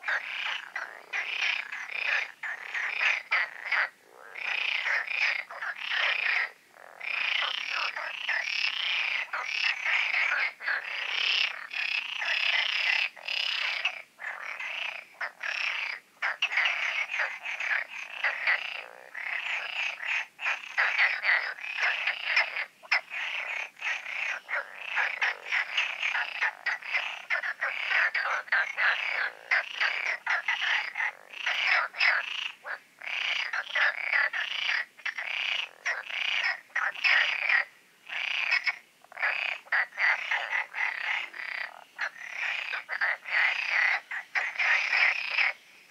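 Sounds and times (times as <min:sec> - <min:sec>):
frogs croaking in chorus: 0:00.0 - 0:45.9.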